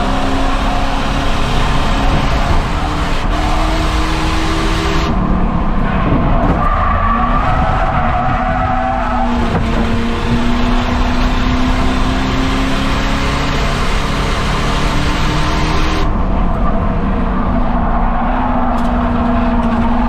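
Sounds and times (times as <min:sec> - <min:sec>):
race car engine running hard: 0:00.0 - 0:20.0
tires squealing: 0:00.0 - 0:20.0.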